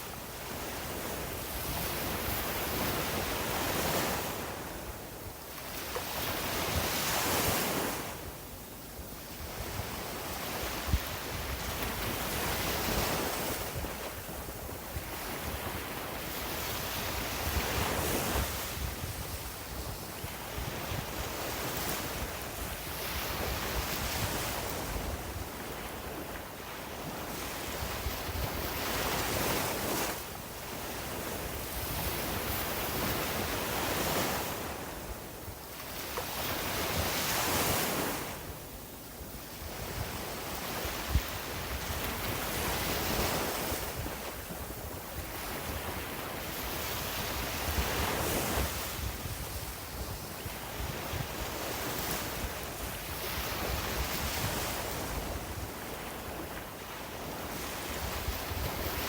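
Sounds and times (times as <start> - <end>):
wind rumbling on microphone: 9.0 - 38.6, 39.3 - 59.0.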